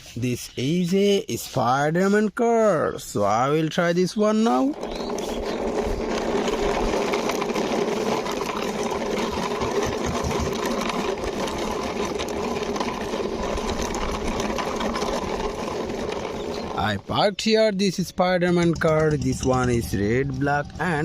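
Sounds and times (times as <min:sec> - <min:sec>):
toy car wheels rattling: 0:03.2 - 0:21.0.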